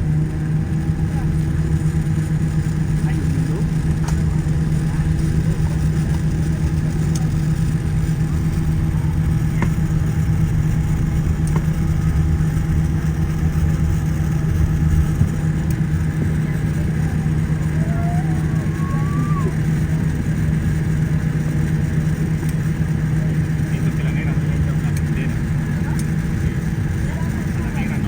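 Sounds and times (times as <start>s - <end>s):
jet engines droning: 0.0s - 28.0s.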